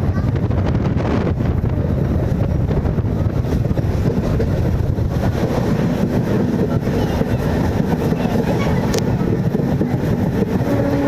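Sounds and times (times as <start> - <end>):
electric train rumbling: 0.0 - 11.0
wind buffeting microphone: 0.0 - 11.0.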